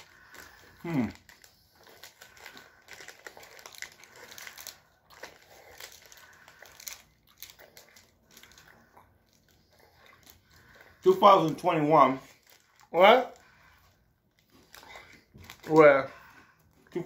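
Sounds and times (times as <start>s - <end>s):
crunchy chewing: 0.0s - 17.0s
wrapper crinkling: 0.0s - 17.0s.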